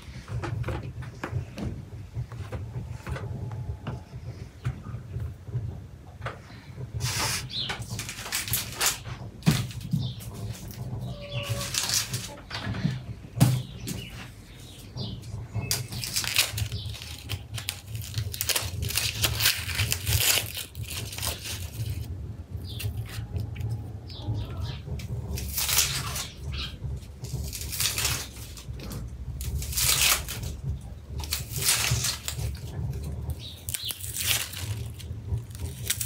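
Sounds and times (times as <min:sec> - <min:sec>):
onion skins crackling: 0:06.4 - 0:36.0.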